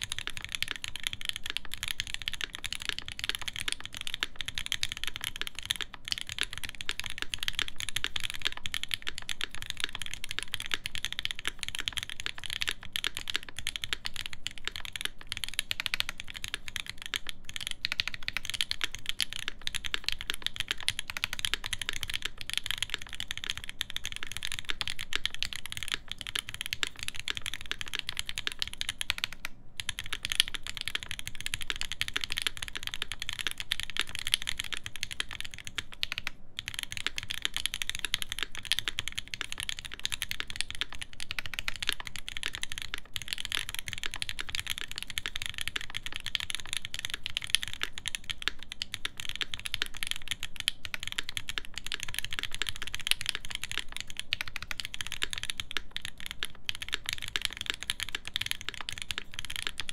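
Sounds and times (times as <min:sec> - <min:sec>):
fast mechanical keyboard typing: 0:00.0 - 0:59.9.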